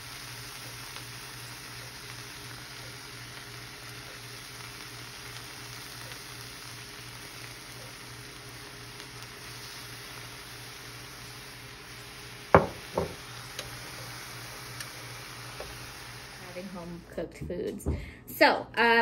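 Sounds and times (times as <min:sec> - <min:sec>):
chicken sizzling in a skillet: 0:00.0 - 0:17.2.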